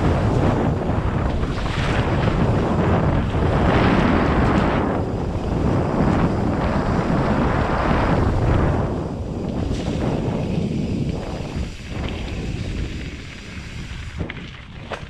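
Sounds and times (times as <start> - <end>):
tyres rumbling on dirt: 0.0 - 15.0
wind rushing over microphone: 0.0 - 15.0.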